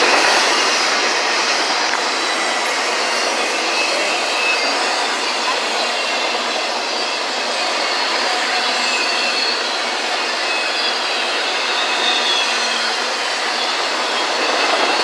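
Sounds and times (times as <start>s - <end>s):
freight train wheels on track: 0.0s - 15.0s
high wheel squeals: 0.0s - 15.0s.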